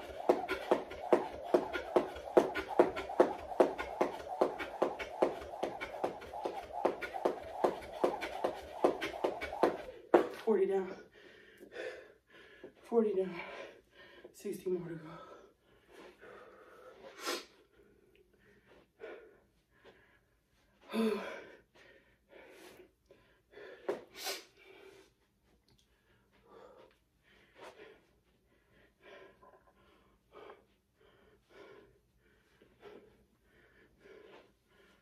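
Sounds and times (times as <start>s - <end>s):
person breathing hard: 0.0s - 10.4s, 11.0s - 14.3s, 15.0s - 35.0s.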